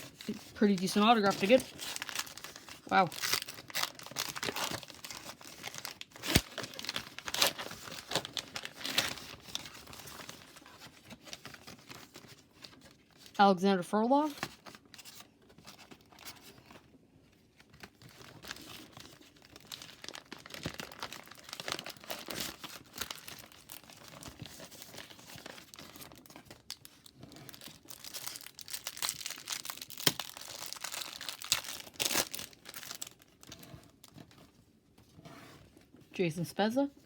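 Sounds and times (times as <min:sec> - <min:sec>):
wrapper crinkling and tearing: 0:00.0 - 0:13.4, 0:17.6 - 0:34.2.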